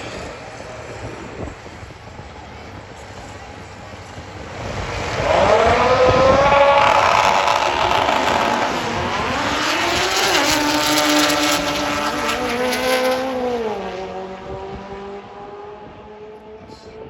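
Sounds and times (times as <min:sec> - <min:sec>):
motorcycle engine at full throttle: 0:00.0 - 0:17.0.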